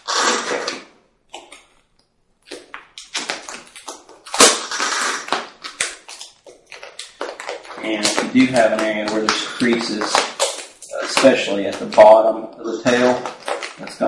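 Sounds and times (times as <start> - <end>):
vinyl film crackling and rustling: 0.0 - 14.0.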